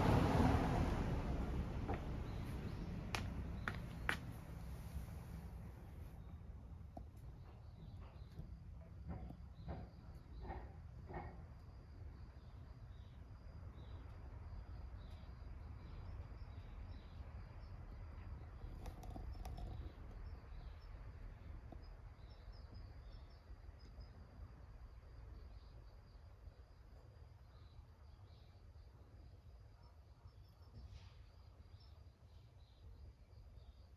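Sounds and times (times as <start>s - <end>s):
low background rumble: 0.0s - 30.7s
insects chirping: 0.0s - 33.9s.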